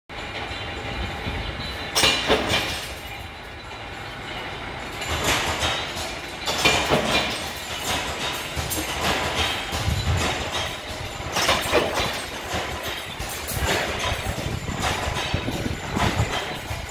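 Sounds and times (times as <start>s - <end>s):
mechanical rumble and rattle: 0.1s - 16.9s
metallic clanking: 0.1s - 16.9s.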